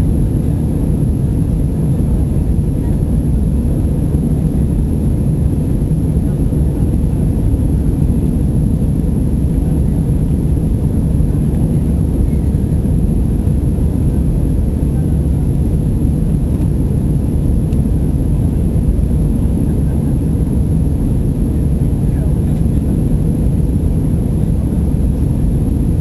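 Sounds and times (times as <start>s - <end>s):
jet engine drone: 0.0s - 26.0s.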